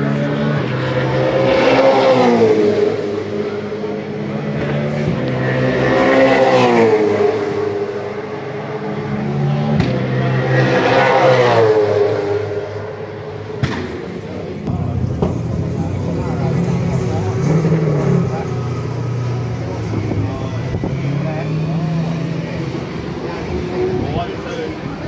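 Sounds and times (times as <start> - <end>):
low engine drone: 0.0 - 25.0
race cars passing at speed: 0.0 - 25.0.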